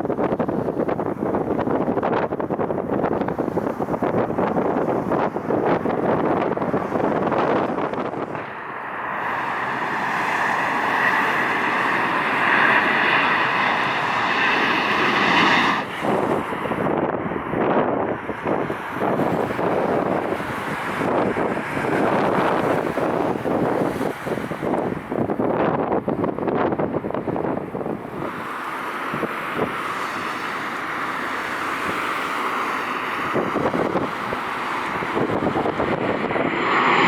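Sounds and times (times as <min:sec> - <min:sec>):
aircraft engine: 0:00.0 - 0:37.0
wind buffeting microphone: 0:00.0 - 0:37.0.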